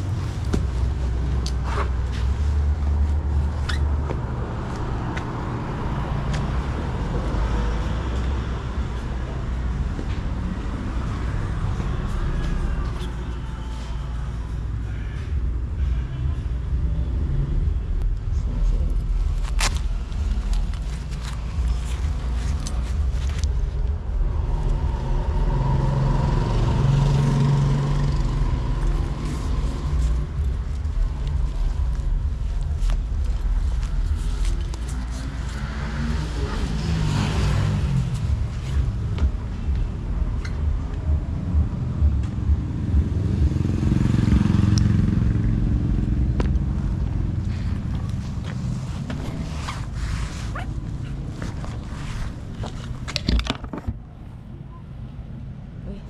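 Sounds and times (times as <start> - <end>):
road traffic rumble: 0.0 - 56.0
vehicles passing close: 0.0 - 56.0.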